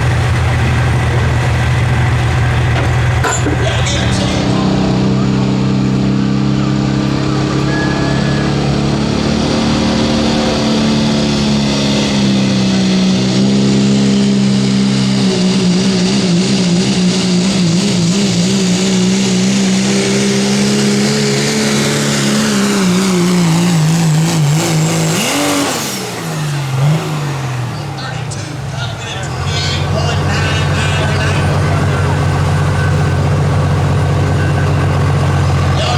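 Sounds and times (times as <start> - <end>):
diesel pickup engine at full throttle: 0.0 - 35.9.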